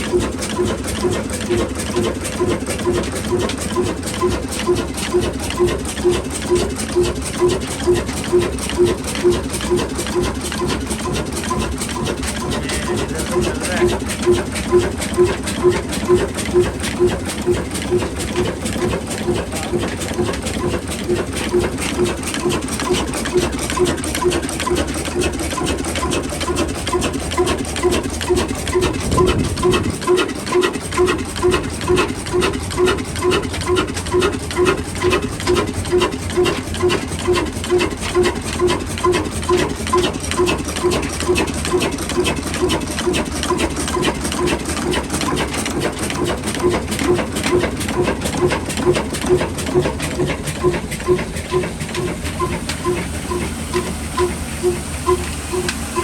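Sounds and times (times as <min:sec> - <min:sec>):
diesel engine pulsing: 0:00.0 - 0:56.0.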